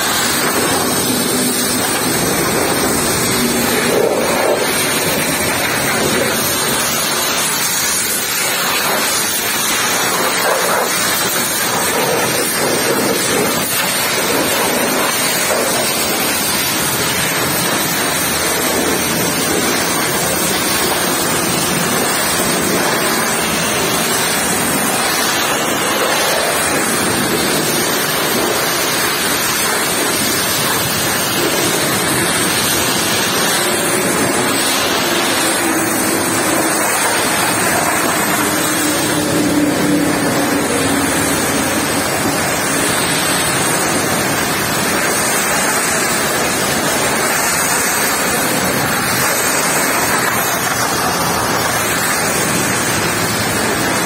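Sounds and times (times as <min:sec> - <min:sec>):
pressure washer spray hissing: 0:00.0 - 0:54.0.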